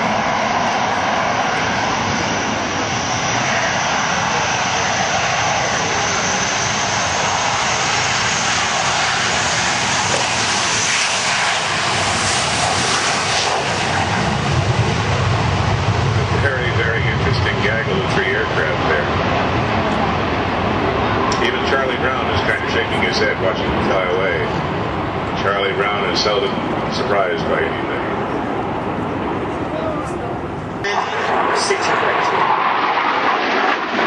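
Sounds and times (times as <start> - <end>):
jet aircraft flying past: 0.0 - 34.0.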